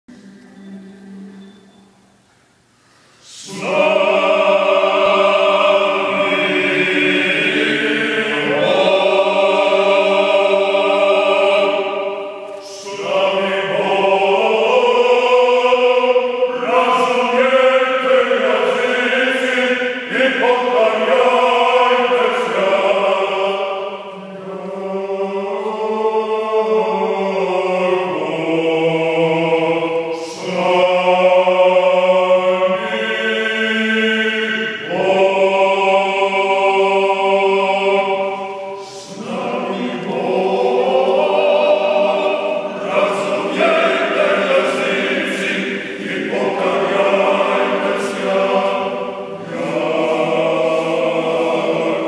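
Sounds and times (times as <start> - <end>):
male choir chanting a cappella: 3.2 - 52.0.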